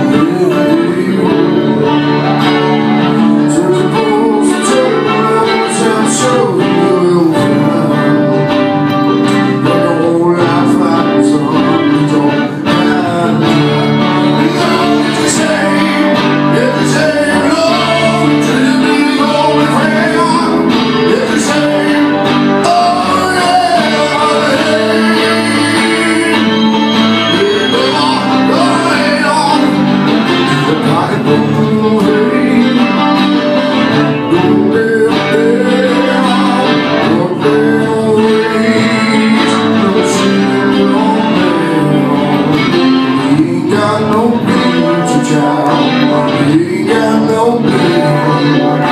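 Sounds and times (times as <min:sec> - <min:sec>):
acoustic guitars playing: 0:00.0 - 0:48.9
man singing: 0:00.0 - 0:48.9.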